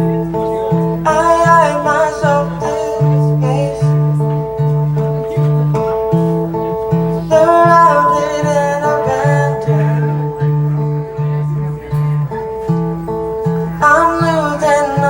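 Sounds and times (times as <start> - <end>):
acoustic guitar picking: 0.0 - 15.0
person singing: 0.0 - 15.0.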